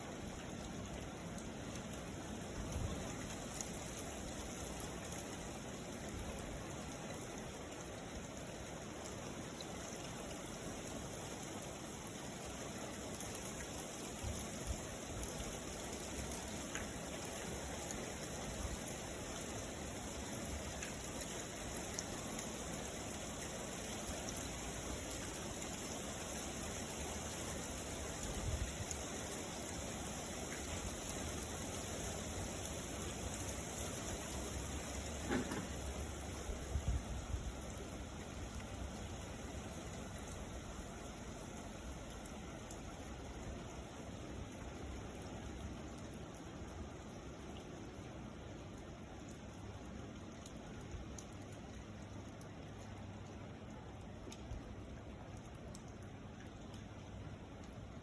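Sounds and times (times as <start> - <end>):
rain hissing: 0.0 - 53.9.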